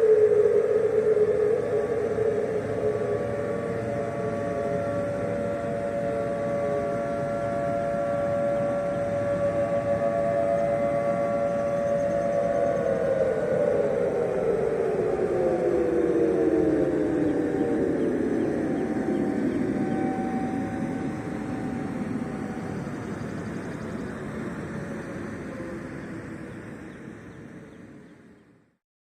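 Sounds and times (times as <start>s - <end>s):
low rushing noise: 0.0s - 28.1s
tornado siren wailing: 0.0s - 28.3s.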